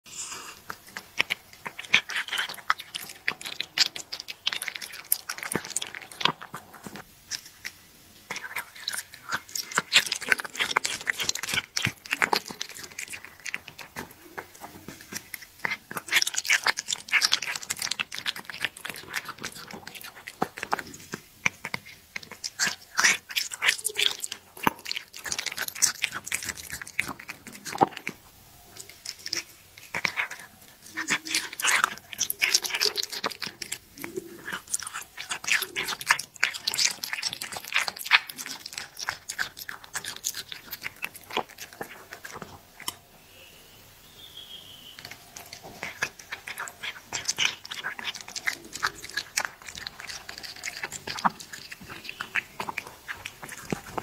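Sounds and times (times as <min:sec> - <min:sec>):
cat chewing and licking: 0:00.0 - 0:43.2, 0:44.9 - 0:54.0.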